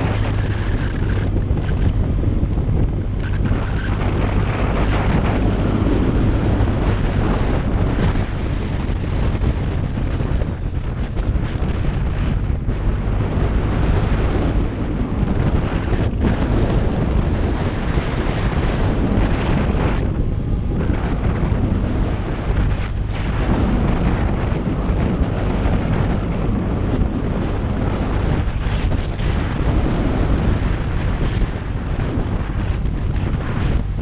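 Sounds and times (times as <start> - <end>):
motorcycle engine drone: 0.0 - 34.0
wind rushing over microphone: 0.0 - 34.0.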